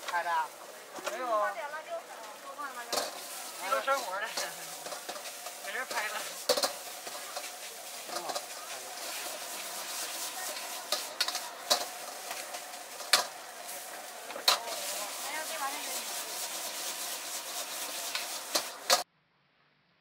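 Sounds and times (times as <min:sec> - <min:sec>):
food sizzling: 0:00.0 - 0:19.1
metal ladle scraping wok: 0:02.3 - 0:19.0.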